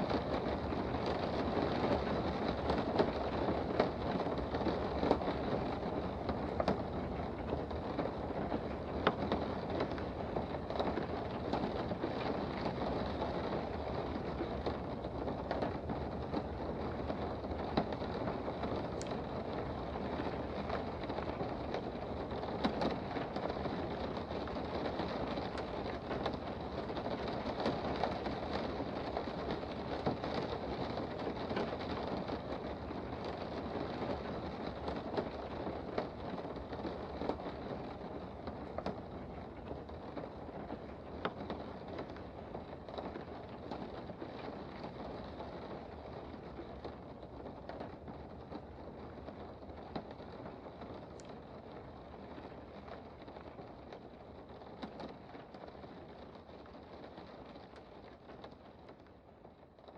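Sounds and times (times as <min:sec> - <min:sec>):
raindrops ticking on surfaces: 0:00.0 - 0:59.9.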